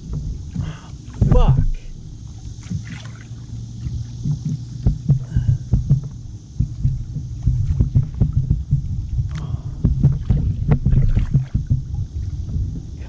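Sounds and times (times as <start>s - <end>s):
steady hiss: 0.0s - 13.0s
thumps on kayak hull and water: 0.0s - 13.0s.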